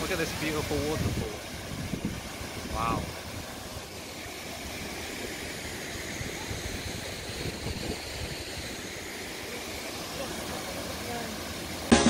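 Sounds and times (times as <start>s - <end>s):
small waterfall rushing: 0.0s - 12.0s
stream flowing over rocks: 0.0s - 12.0s.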